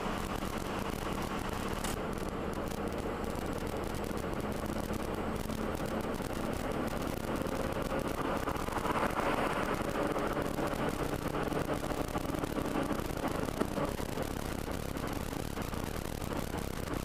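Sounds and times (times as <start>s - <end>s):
car engine hum: 0.0s - 17.0s
tyre road noise: 0.0s - 17.0s.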